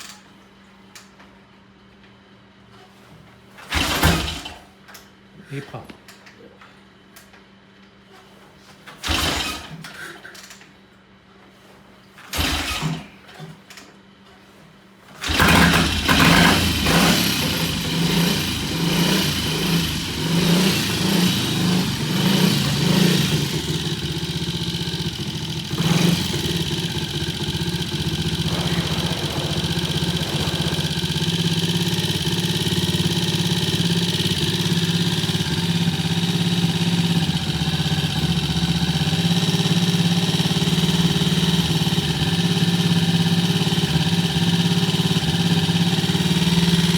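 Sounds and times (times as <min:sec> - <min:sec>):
motorcycle engine starting and idling: 0:03.6 - 0:05.2, 0:08.2 - 0:10.8, 0:12.2 - 0:46.9.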